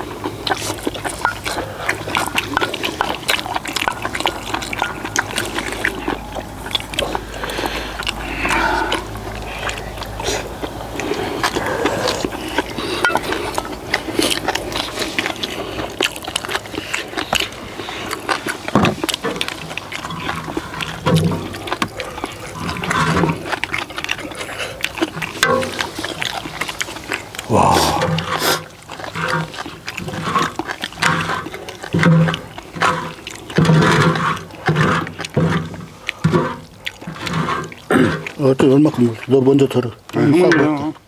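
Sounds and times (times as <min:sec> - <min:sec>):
chewing and slurping: 0:00.0 - 0:41.0.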